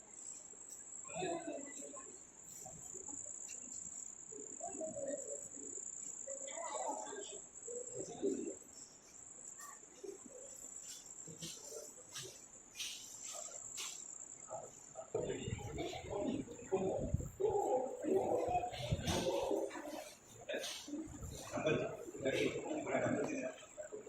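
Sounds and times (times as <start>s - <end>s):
faint distant voices: 0.0s - 24.0s
insects trilling: 0.0s - 24.0s.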